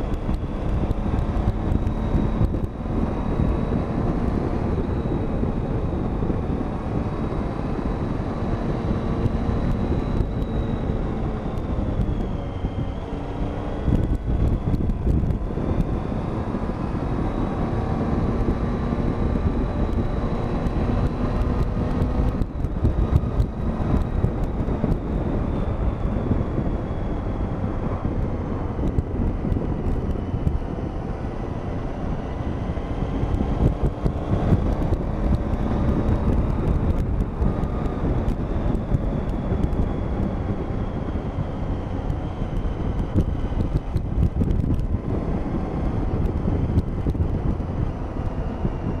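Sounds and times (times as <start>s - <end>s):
motorcycle engine rumble: 0.0s - 49.0s
wind buffeting microphone: 0.0s - 49.0s.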